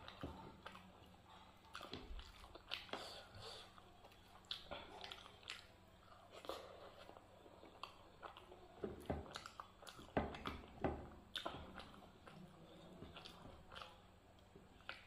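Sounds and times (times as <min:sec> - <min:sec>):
chewing and lip-smacking: 0:00.0 - 0:15.0.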